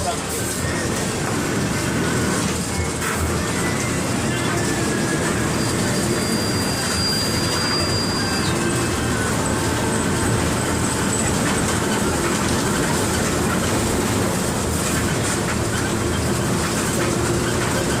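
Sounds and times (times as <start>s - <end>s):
bus diesel engine drone: 0.0s - 18.0s
rattle and road noise: 0.0s - 18.0s.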